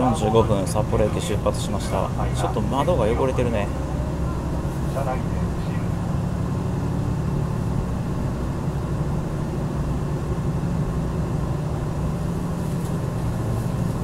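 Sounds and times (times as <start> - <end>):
diesel engine drone: 0.0 - 14.0
train running noise: 0.0 - 14.0.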